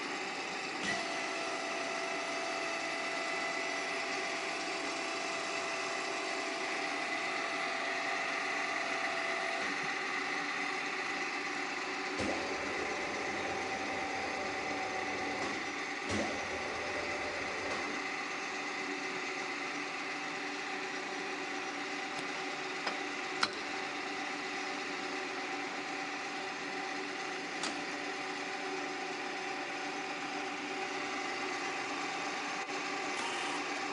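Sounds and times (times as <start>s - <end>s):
drilling machine hum and whine: 0.0s - 33.9s.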